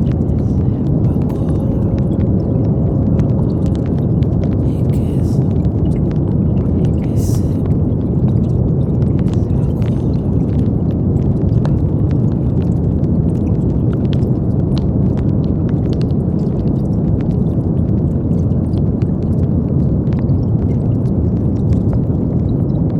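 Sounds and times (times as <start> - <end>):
brown noise: 0.0 - 22.5.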